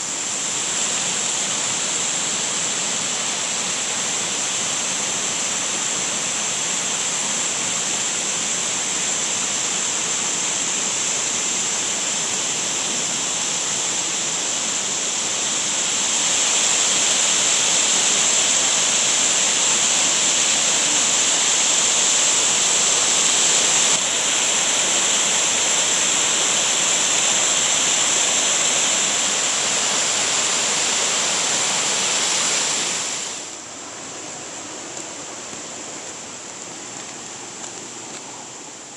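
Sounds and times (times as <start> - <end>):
waterfall rushing: 0.0 - 37.6.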